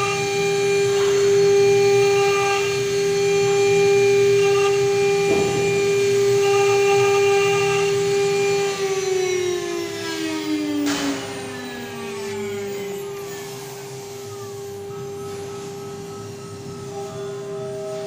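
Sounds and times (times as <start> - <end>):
motor whine falling in pitch: 0.0 - 18.0
router spindle whining: 0.0 - 18.0.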